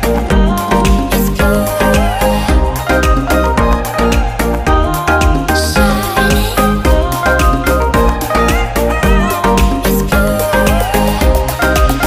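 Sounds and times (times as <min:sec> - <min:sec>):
music with bass beat: 0:00.0 - 0:12.0.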